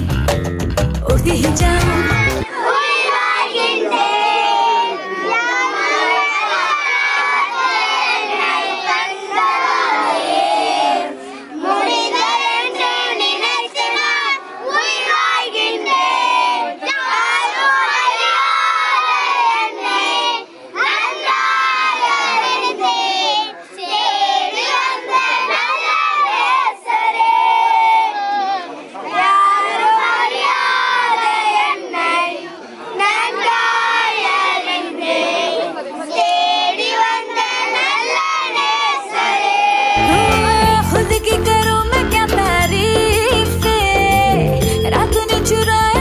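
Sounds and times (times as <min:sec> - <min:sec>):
children singing and shouting: 0:01.1 - 0:46.0.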